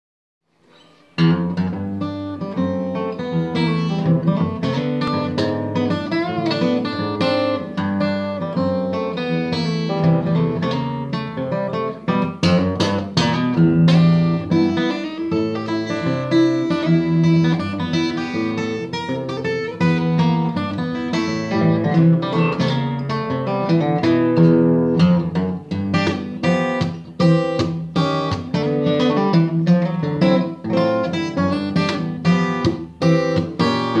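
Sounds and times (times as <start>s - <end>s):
fingerstyle acoustic guitar: 0.5s - 34.0s.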